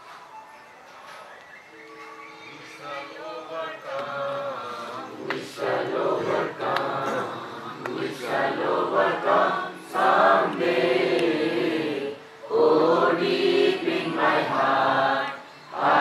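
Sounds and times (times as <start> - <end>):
group singing a prayer: 2.4 - 16.0.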